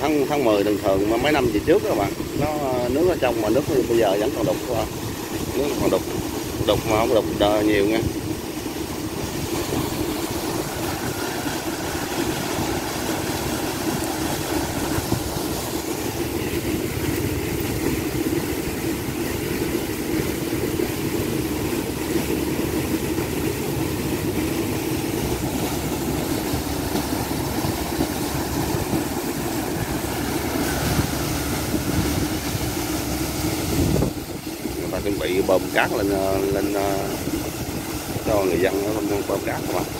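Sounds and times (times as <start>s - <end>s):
water gushing from pipe: 0.0s - 39.9s.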